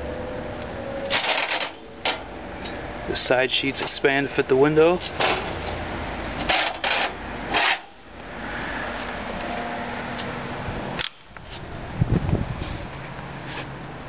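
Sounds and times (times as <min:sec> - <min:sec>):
fan air rushing: 0:00.0 - 0:14.0.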